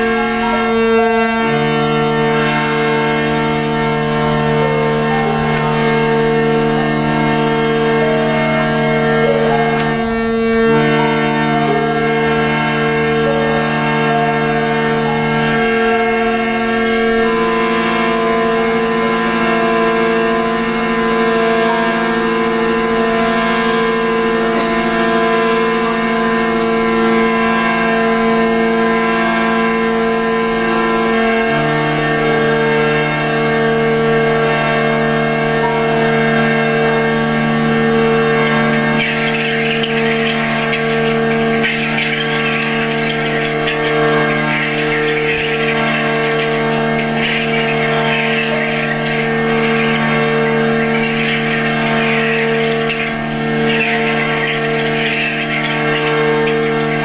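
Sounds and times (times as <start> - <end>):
harmonium drone chords: 0.0 - 57.0.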